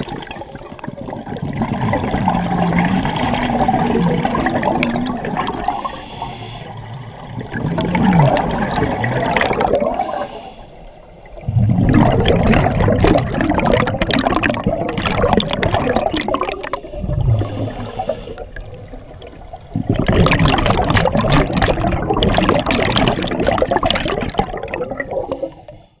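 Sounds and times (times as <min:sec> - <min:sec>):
scuba regulator exhaust bubbles: 0:00.0 - 0:25.9.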